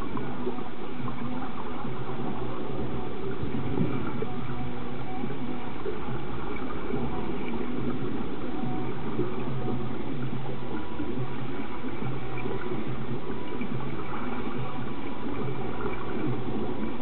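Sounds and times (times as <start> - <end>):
faint low hum: 0.0 - 17.0
underwater bubbling: 0.0 - 17.0.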